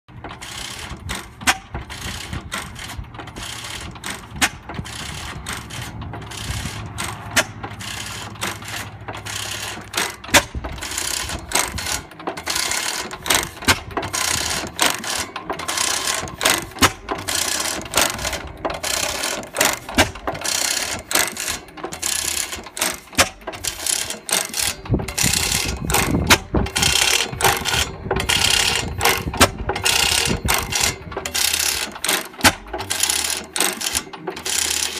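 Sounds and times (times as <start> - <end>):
sharp mechanical clacks: 0.1 - 34.9
stationary engine running: 0.1 - 34.9.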